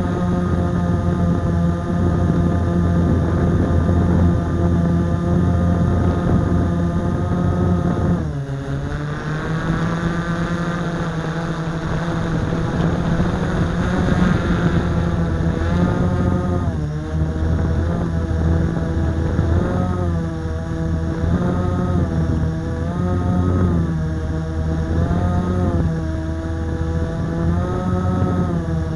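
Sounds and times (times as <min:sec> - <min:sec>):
quadcopter propellers buzzing: 0:00.0 - 0:28.9.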